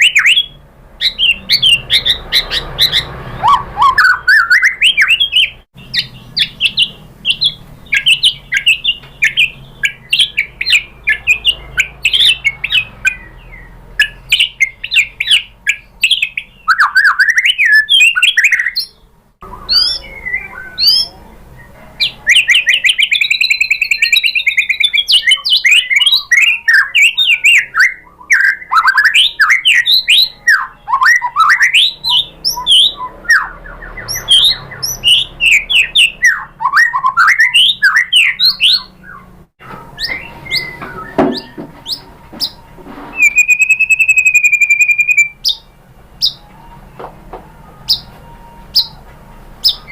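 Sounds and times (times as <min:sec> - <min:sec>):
bird singing whistles and trills: 0:00.0 - 0:46.7, 0:47.8 - 0:49.0, 0:49.6 - 0:49.9.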